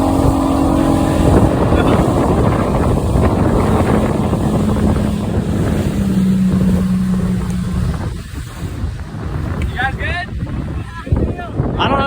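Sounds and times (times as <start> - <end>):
motorboat engine running: 0.0 - 12.0
water rushing past hull: 0.0 - 12.0
wind buffeting microphone: 0.0 - 12.0.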